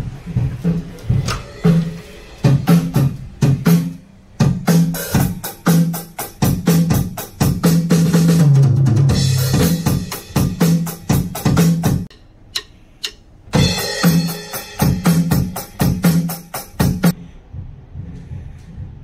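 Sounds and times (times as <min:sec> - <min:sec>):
drum kit playing fast: 0:00.0 - 0:12.2, 0:13.0 - 0:18.2.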